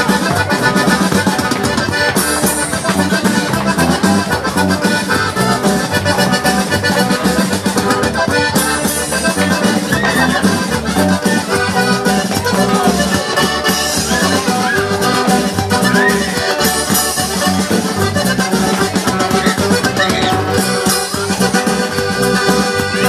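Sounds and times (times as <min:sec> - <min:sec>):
accordion dance music: 0:00.0 - 0:23.0.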